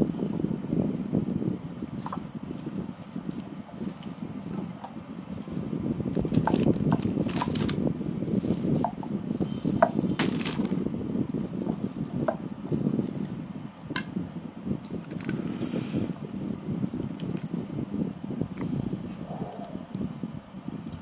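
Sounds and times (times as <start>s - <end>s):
crackle and rustle of skin and meat: 0.1s - 17.8s.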